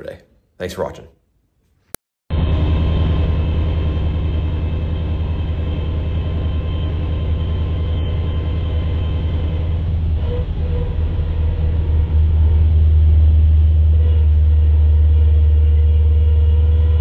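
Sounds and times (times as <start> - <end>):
car engine drone: 2.3 - 17.0.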